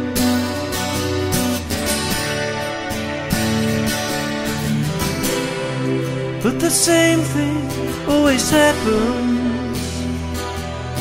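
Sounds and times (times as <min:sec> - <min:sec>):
song with guitar: 0:00.0 - 0:11.0.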